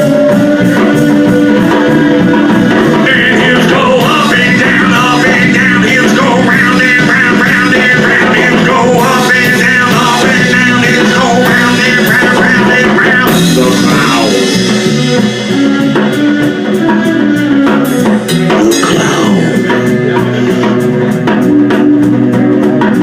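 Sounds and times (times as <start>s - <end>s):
drum and cymbal hits: 0.0s - 23.0s
rock band instrumental: 0.0s - 23.0s.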